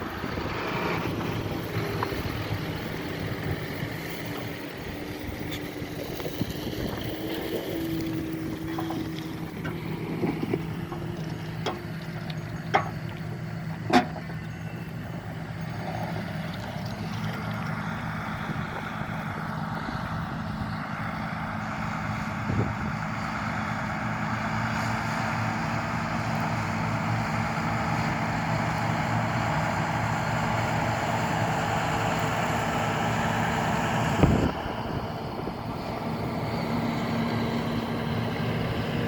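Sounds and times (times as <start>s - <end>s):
combine harvester engine drone: 0.0s - 39.0s.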